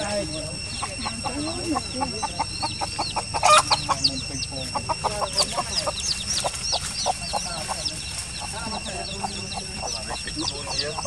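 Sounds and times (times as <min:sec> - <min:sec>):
chicks peeping: 0:00.0 - 0:11.0
hen clucking: 0:00.0 - 0:11.0.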